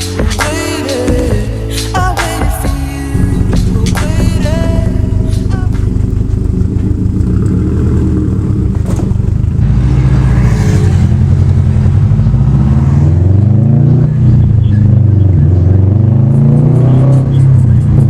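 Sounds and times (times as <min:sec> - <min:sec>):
loud car engine exhaust: 0:03.1 - 0:18.0.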